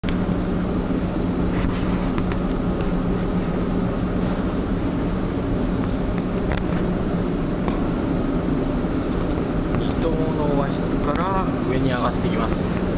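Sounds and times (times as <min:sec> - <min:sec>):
ship engines droning: 0:00.0 - 0:12.9.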